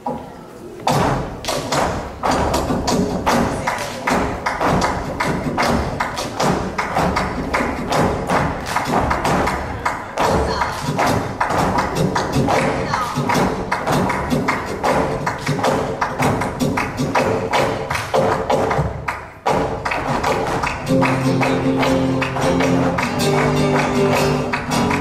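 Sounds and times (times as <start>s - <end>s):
dancers stamping on stage: 0.0s - 25.0s
flamenco guitar: 0.0s - 25.0s.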